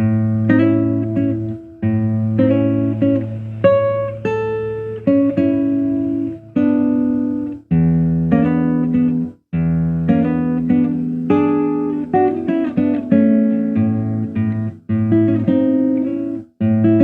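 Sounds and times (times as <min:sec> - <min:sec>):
fingerpicked acoustic guitar: 0:00.0 - 0:17.0.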